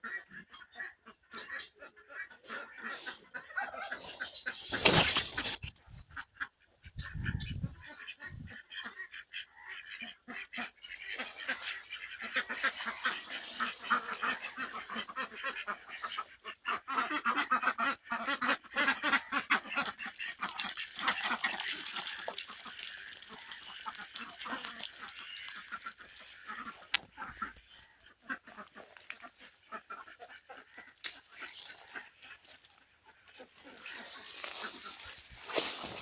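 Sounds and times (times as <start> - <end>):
ducks quacking: 0.0 - 36.0.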